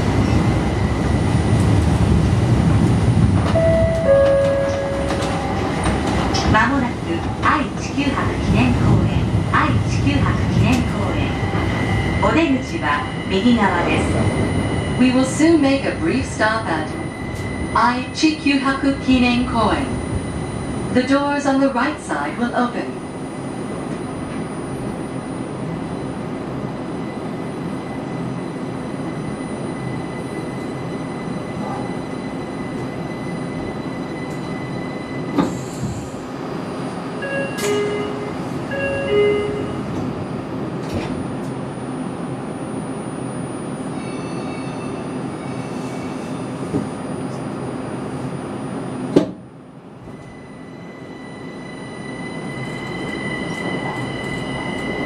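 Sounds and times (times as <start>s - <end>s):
train running hum: 0.0s - 55.0s.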